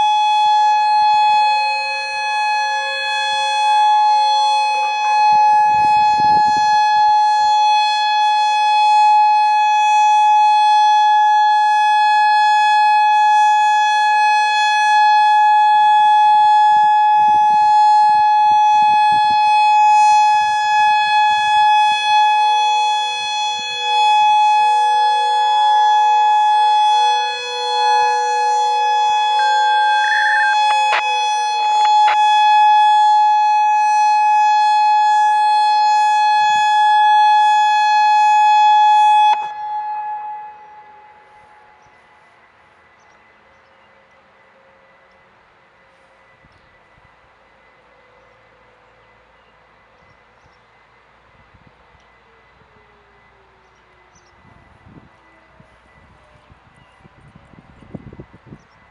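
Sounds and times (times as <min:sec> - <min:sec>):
outdoor warning siren: 0:00.0 - 0:58.9.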